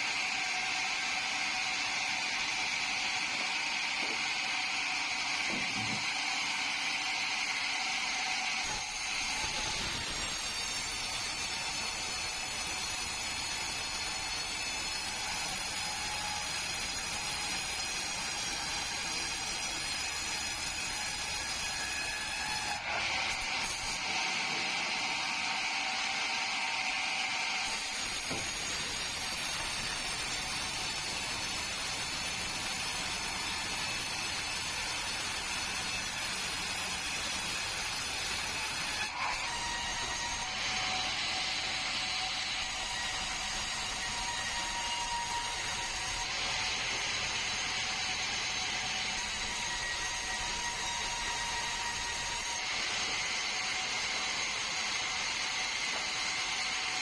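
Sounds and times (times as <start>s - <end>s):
sawmill saw cutting timber: 0.0s - 57.0s.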